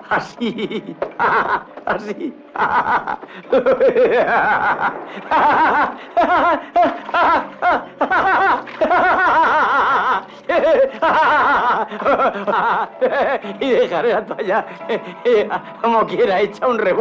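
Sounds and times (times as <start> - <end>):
man cackling with laughter: 0.0 - 15.7.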